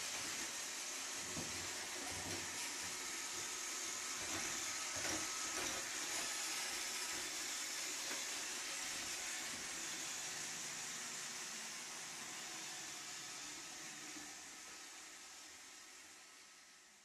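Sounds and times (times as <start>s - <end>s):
robot vacuum running: 0.0s - 16.8s.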